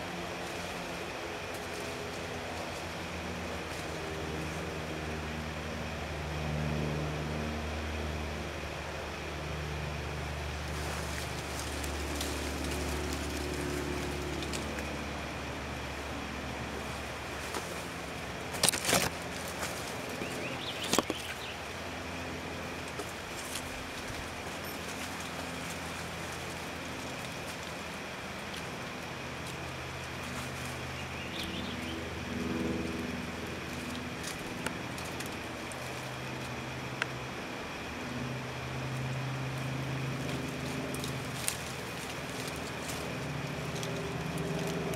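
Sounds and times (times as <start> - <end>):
crackling rustles: 0.0 - 5.4, 10.0 - 44.9
low mechanical drone: 0.0 - 44.9
low outdoor rumble: 0.0 - 44.9.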